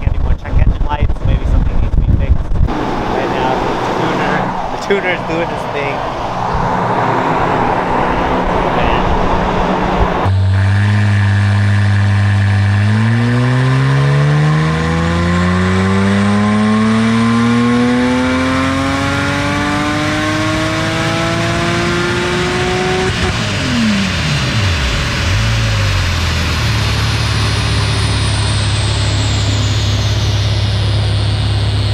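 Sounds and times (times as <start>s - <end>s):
car engine revving on a dyno: 2.7s - 31.9s.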